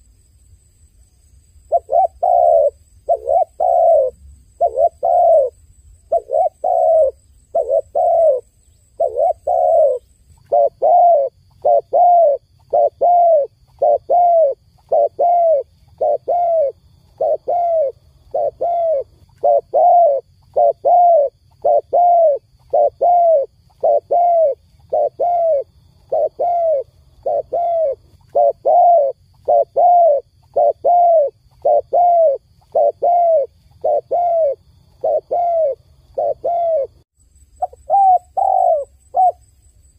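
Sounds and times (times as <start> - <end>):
dove cooing: 1.7 - 37.0, 37.6 - 39.4.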